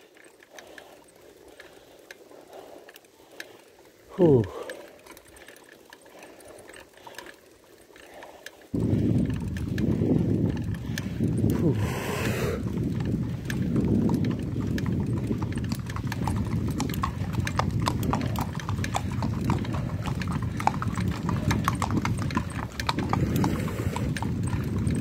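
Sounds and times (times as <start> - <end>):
hooves clip-clopping on asphalt: 0.0 - 25.0.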